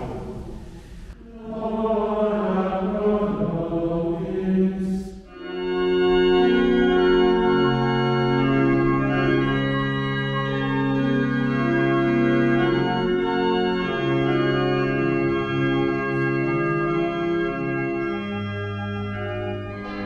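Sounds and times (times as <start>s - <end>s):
church organ chords: 0.0s - 20.0s.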